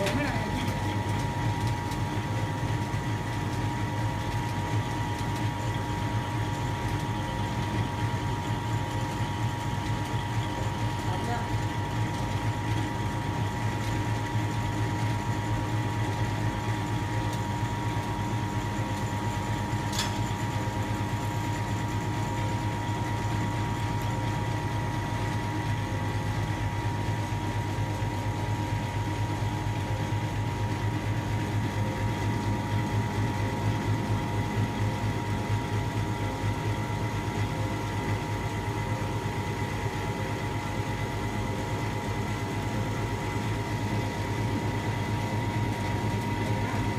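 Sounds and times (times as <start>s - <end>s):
hydraulic motor and pump hum: 0.0s - 46.9s.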